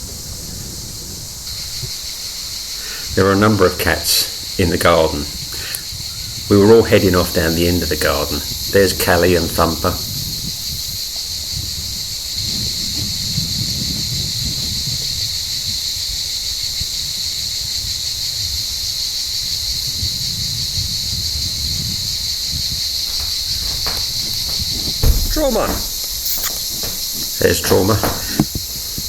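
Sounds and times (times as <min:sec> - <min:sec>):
cicadas singing: 0:00.0 - 0:29.0.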